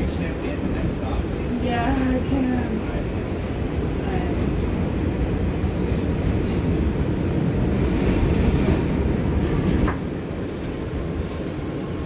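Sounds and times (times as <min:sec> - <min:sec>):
subway wheels rumbling on track: 0:00.0 - 0:12.0.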